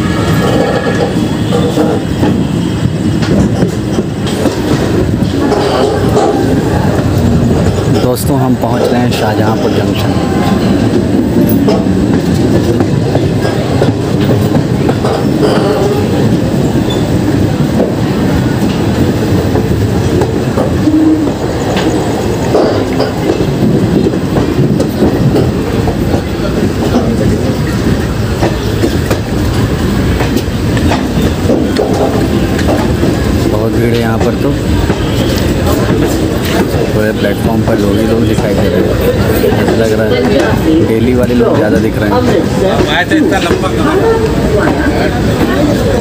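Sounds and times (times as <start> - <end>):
train wheels clattering over rails: 0.0 - 46.0.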